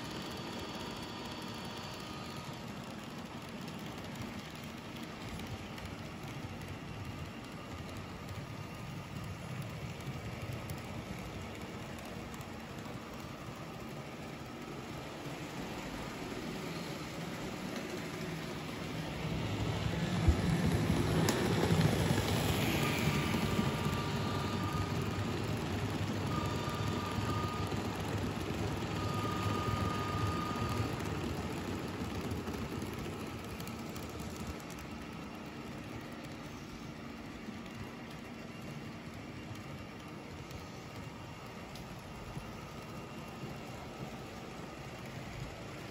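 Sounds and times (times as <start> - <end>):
model train rumble: 0.0 - 45.9
thin high whine: 0.0 - 45.9.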